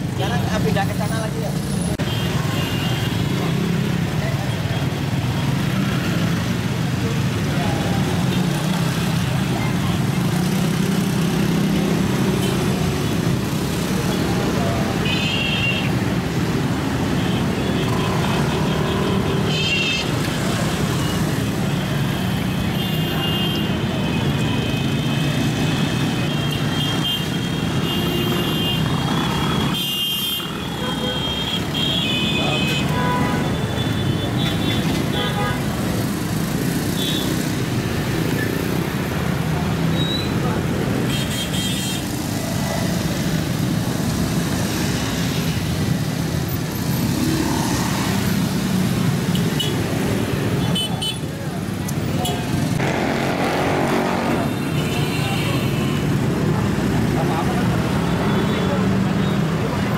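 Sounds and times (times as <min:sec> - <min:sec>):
road noise: 0:00.0 - 0:59.9
motorcycle and car engines: 0:03.2 - 0:15.1, 0:15.9 - 0:29.9, 0:30.5 - 0:41.2, 0:41.9 - 0:59.9.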